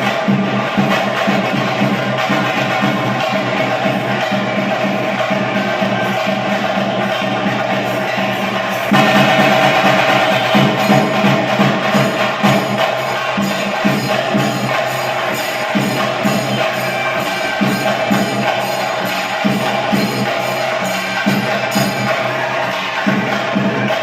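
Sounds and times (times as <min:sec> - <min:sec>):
drums struck in steady rhythm: 0:00.0 - 0:24.0
jangling cymbals: 0:00.0 - 0:24.0.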